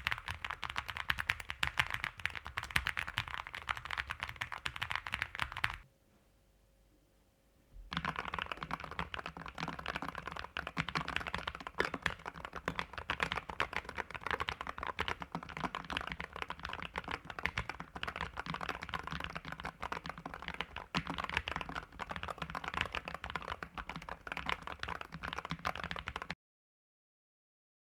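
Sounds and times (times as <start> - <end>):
mechanical keyboard typing: 0.0 - 5.8, 7.9 - 26.4.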